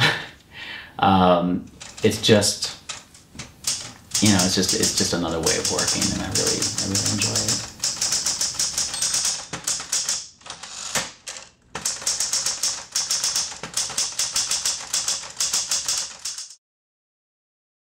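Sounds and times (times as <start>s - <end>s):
manual typewriter typing: 1.7s - 16.6s.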